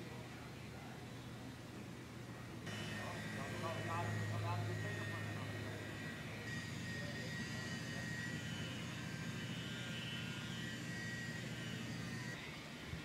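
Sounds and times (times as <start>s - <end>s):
faint high whine: 0.0s - 13.0s
mechanical drone with low hum: 0.0s - 13.0s.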